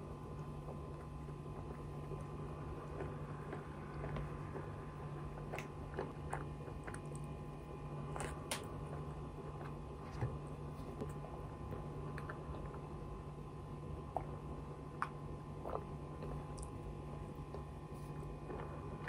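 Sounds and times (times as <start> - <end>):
chewing soft bread: 0.0 - 19.0
steady low hum: 0.0 - 19.0.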